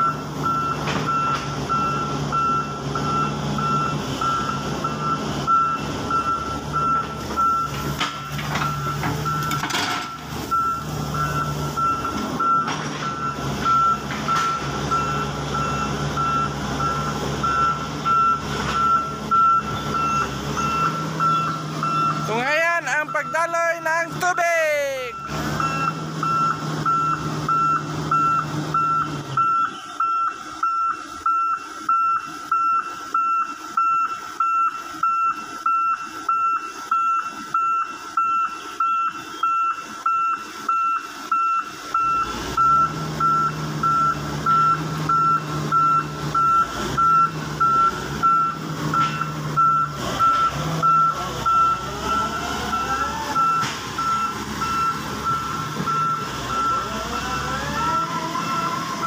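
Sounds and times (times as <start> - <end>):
diesel engine drone: 0.0 - 59.0
excavator warning alarm beeping: 0.0 - 59.0.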